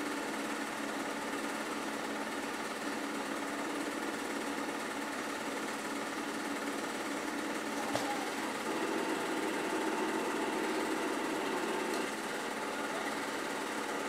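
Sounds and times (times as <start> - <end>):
small machine whirring: 0.0 - 14.0.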